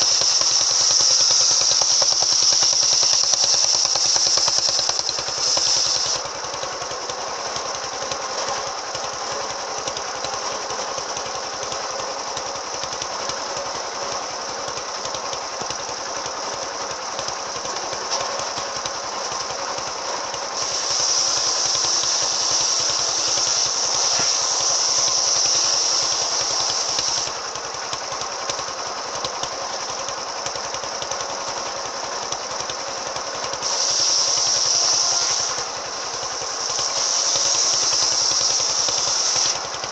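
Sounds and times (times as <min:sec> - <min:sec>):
circular saw running: 0:00.0 - 0:39.9
saw blade cutting hiss: 0:00.0 - 0:39.9.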